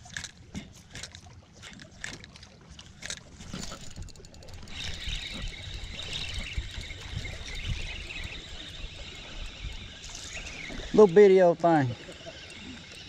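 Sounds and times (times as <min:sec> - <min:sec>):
fishing reel whirring: 0:00.0 - 0:13.0.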